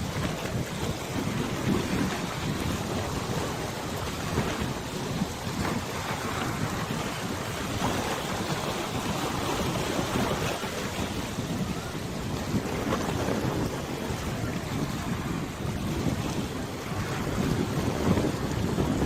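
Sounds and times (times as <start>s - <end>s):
water lapping: 0.0s - 19.0s
wind buffeting microphone: 0.0s - 19.0s.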